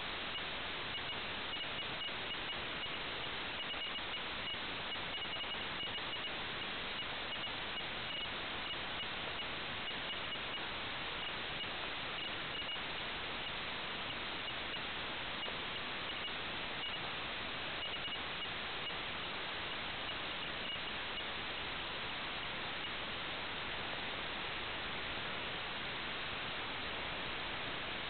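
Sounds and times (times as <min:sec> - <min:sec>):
static hiss: 0:00.0 - 0:28.0.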